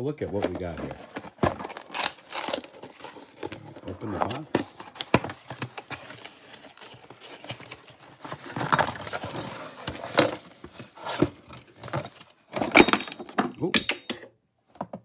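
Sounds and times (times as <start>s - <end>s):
cardboard rustling and scraping: 0.2s - 12.7s.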